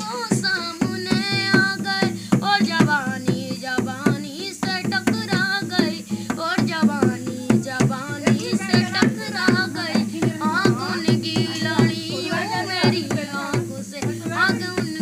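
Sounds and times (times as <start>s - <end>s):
boy singing: 0.0s - 15.0s
hand drum beating: 0.0s - 15.0s.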